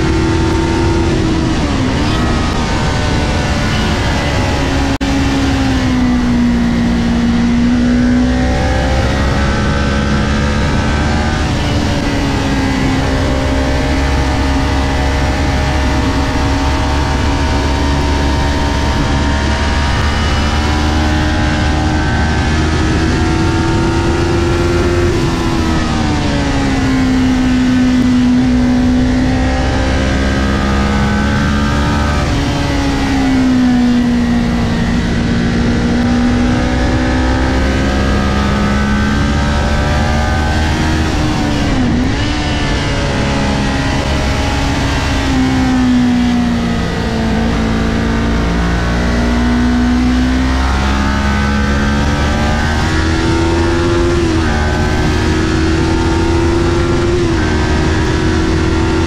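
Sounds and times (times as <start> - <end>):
motorcycle engine revving hard: 0.0 - 59.0.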